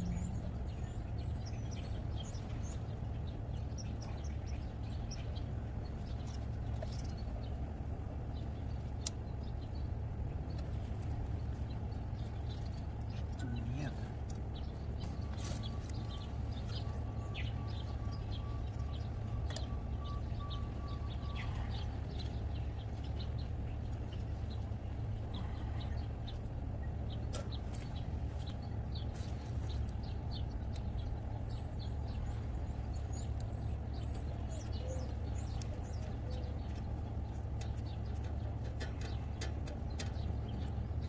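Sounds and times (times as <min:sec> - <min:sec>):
birds chirping: 0:00.0 - 0:41.0
low machine hum: 0:00.0 - 0:41.0.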